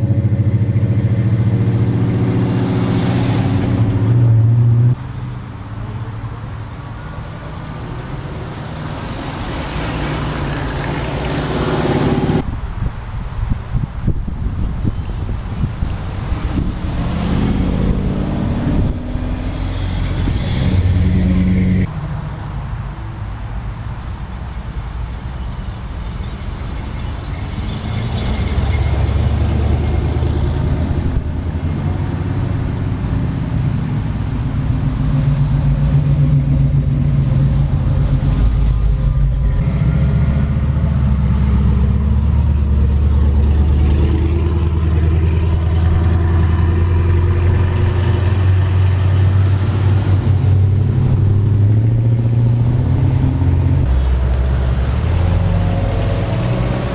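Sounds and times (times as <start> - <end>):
car engines rumbling: 0.0 - 56.9.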